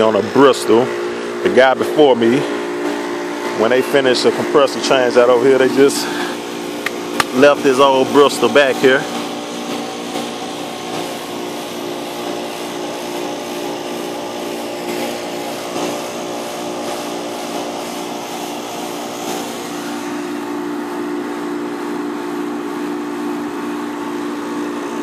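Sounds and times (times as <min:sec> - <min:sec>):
motor and compressor hum: 0:00.0 - 0:25.0.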